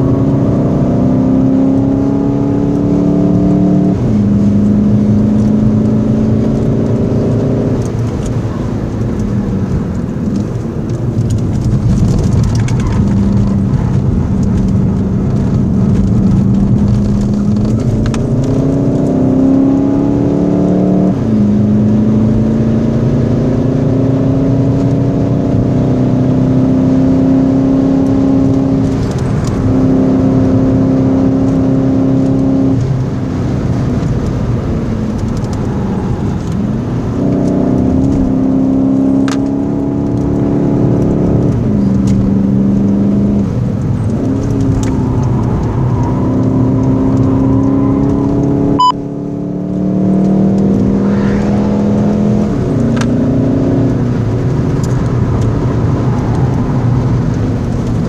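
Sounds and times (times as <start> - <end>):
car engine under hard driving: 0.0 - 58.0.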